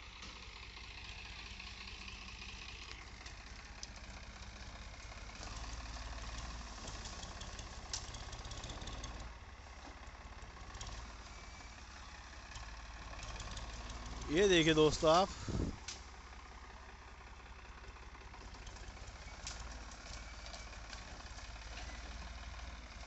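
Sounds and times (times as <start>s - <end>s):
tractor diesel engine rumbling: 0.0s - 23.0s.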